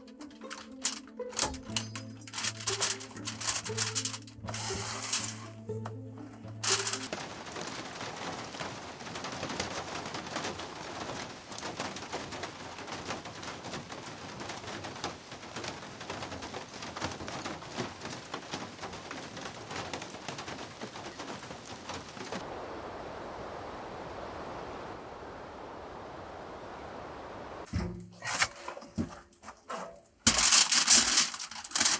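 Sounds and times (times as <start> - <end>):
foil insulation crinkling: 2.3 - 5.5, 6.6 - 27.7, 30.3 - 31.9.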